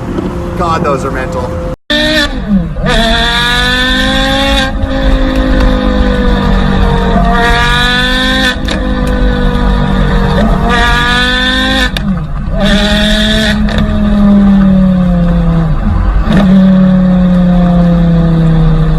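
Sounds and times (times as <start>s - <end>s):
sports car engine at full throttle: 0.0s - 18.9s.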